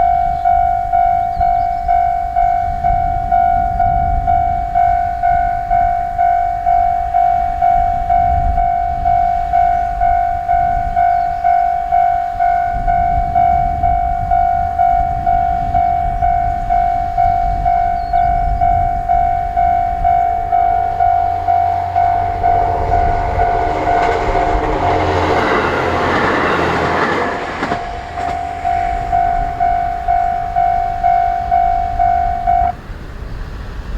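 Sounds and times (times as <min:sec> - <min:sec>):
level crossing warning bell: 0:00.0 - 0:32.8
railcar engine and wheel noise: 0:00.0 - 0:33.9.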